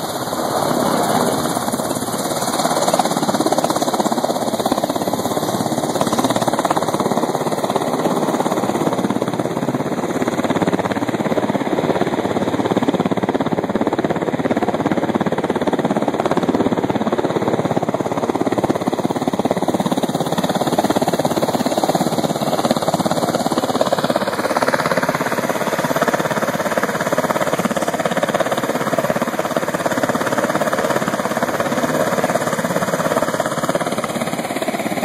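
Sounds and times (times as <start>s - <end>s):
helicopter rotor beat: 0.0s - 35.0s.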